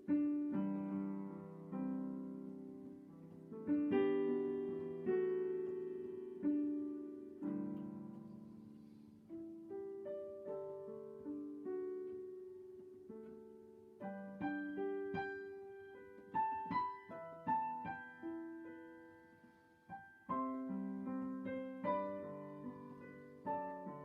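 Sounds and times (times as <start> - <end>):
solo piano playing chords: 0.0 - 24.0.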